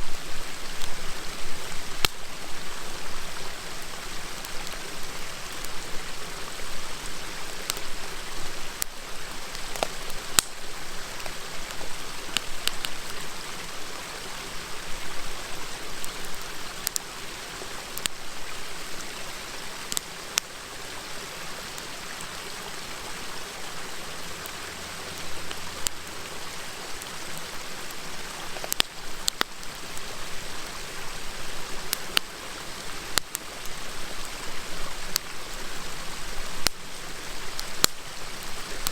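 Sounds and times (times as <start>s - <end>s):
wood fire crackling: 0.0s - 20.6s, 21.7s - 38.9s
river rushing: 0.0s - 38.9s.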